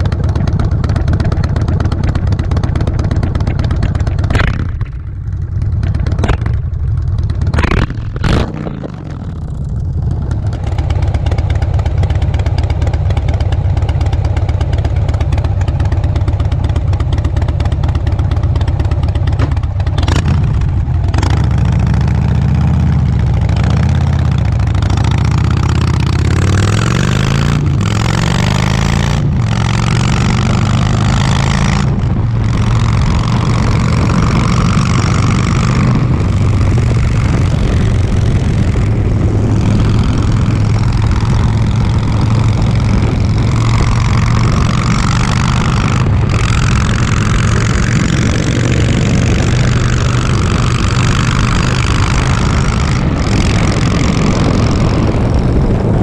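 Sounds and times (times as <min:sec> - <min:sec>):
exhaust cracks: 0:00.0 - 0:22.0, 0:25.6 - 0:56.0
motorcycle engine running: 0:00.0 - 0:56.0.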